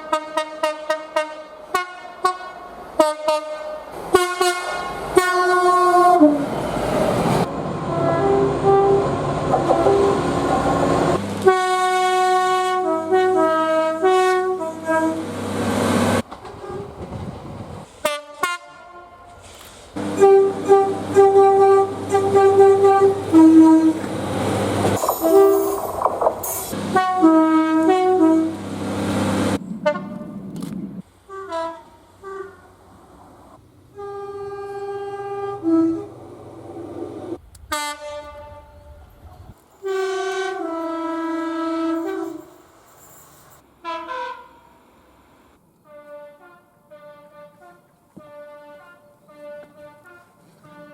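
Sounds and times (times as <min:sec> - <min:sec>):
two-tone train horns: 0:00.0 - 0:06.6, 0:07.3 - 0:17.1, 0:18.0 - 0:25.8, 0:26.7 - 0:30.5, 0:31.3 - 0:32.9, 0:33.9 - 0:39.2, 0:39.8 - 0:42.7, 0:43.8 - 0:44.8, 0:45.8 - 0:50.9
passing train rumble: 0:00.0 - 0:45.4.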